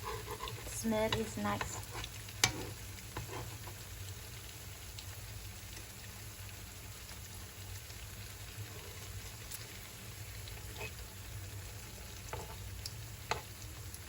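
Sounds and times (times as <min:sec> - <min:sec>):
batter frying in hot oil: 0:00.0 - 0:14.0.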